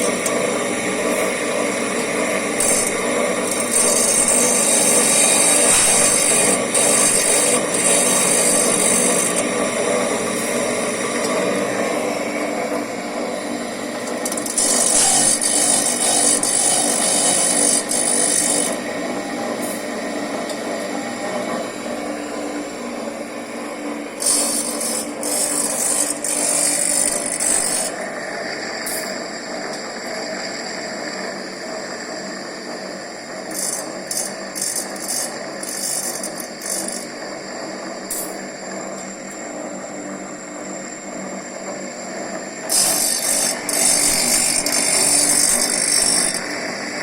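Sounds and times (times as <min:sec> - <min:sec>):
grinding wheel hissing on saw blade: 0:00.0 - 0:20.2, 0:24.2 - 0:38.6, 0:42.5 - 0:47.0.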